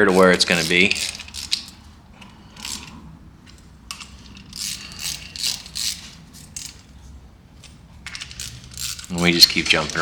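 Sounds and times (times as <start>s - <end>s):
hand ratchet clicking: 0.0s - 7.0s, 7.6s - 10.0s.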